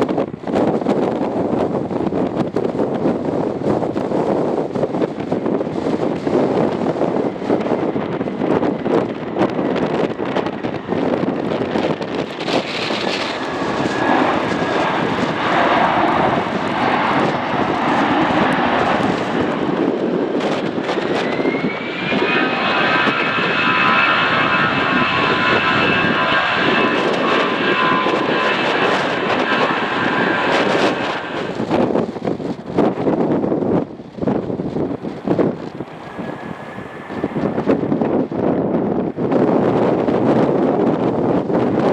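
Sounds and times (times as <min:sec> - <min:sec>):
jet engines whining: 0:00.0 - 0:40.5
broad rushing noise: 0:02.7 - 0:40.6.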